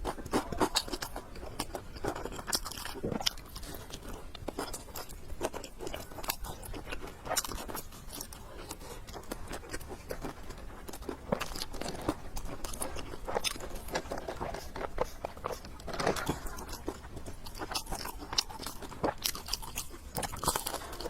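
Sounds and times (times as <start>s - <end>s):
chewing and biting food: 0.0s - 21.0s.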